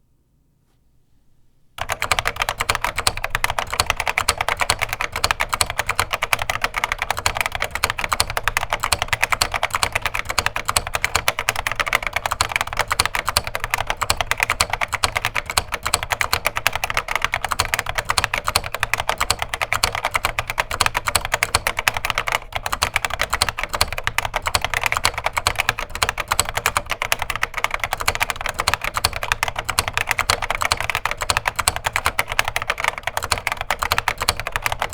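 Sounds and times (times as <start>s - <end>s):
fast typing on mechanical keyboard: 1.8s - 34.9s.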